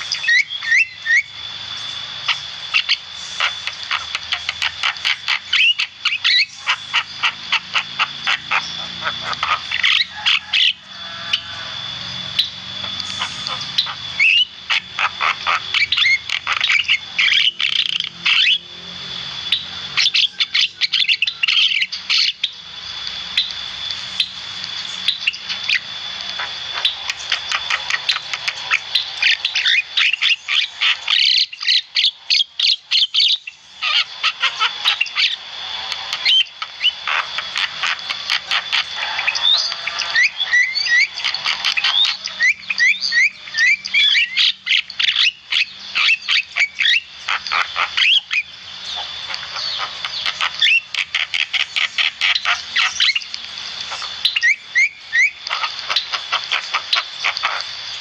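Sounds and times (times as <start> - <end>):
bird chattering and squawking: 0.0 - 18.8, 19.4 - 58.0.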